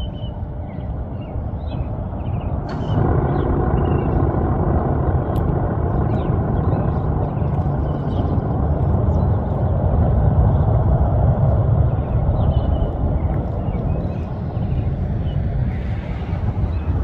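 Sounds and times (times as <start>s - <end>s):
siren low rumbling growl: 0.0s - 17.0s.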